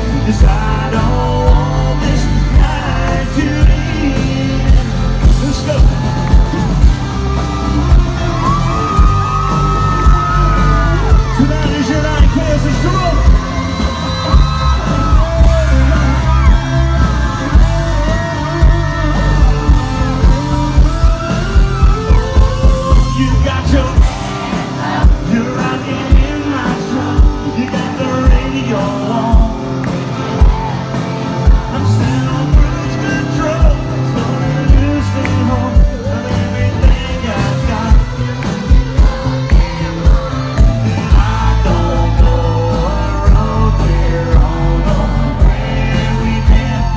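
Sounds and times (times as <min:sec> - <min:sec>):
crowd singing and yelling: 0:00.0 - 0:46.9
live country band playing: 0:00.0 - 0:46.9.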